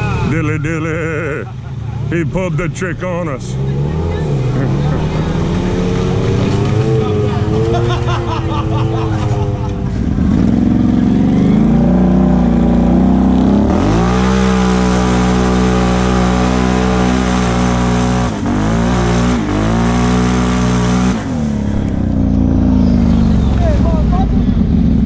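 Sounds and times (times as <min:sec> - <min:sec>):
engine revving: 0:00.0 - 0:25.0.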